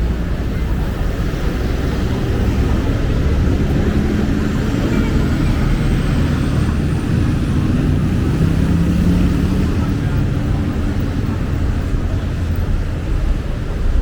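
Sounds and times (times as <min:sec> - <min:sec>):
street traffic rumble: 0:00.0 - 0:14.0
vehicle engine hum: 0:00.0 - 0:14.0.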